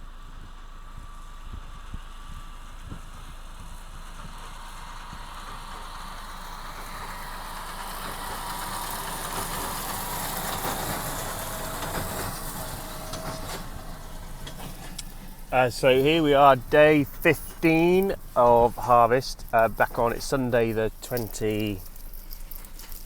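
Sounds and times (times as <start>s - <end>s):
tractor and baler running: 0.0s - 23.0s.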